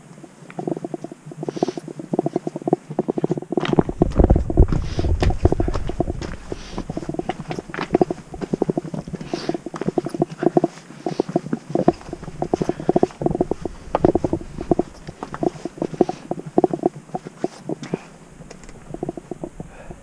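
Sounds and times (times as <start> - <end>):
clothing rubbing on microphone: 0.6 - 18.1
footsteps on rock and grass: 0.6 - 18.1.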